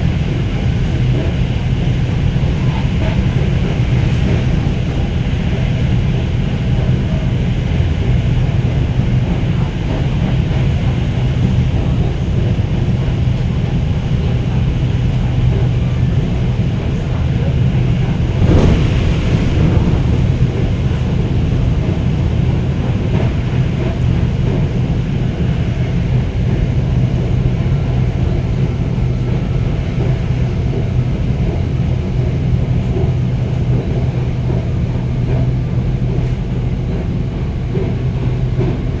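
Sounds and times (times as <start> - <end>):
electric train rumble and hum: 0.0 - 39.0.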